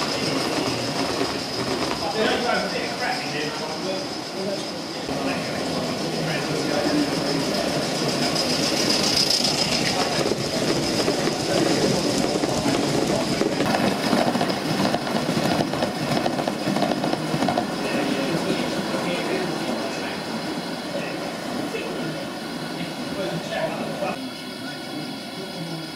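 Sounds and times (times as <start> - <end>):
model train wheels on rails: 0.0 - 25.9.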